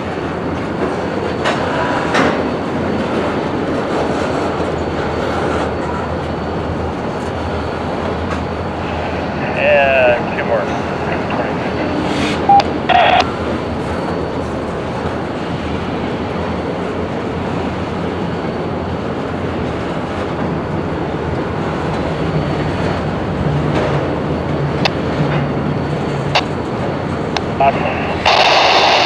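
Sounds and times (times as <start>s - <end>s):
freight train rolling: 0.0s - 29.0s.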